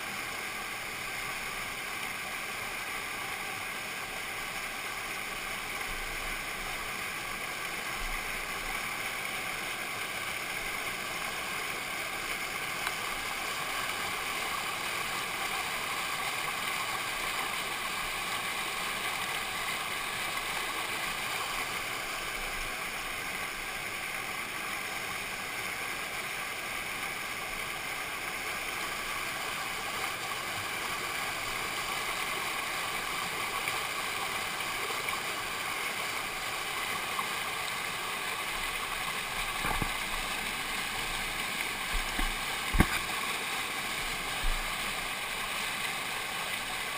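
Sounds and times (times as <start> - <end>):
water rushing over rocks: 0.0 - 46.9.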